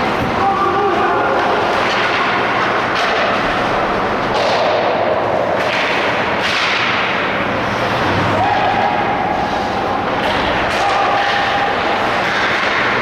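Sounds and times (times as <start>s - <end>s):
rushing noise on ice rink: 0.0s - 13.0s.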